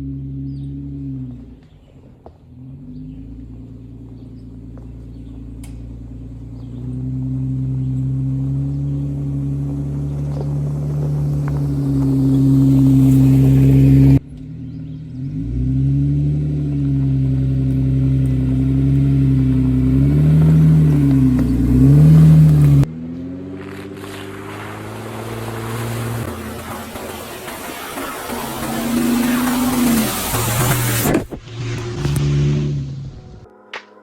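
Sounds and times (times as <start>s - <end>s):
car engine revving while driving: 0.0s - 33.4s.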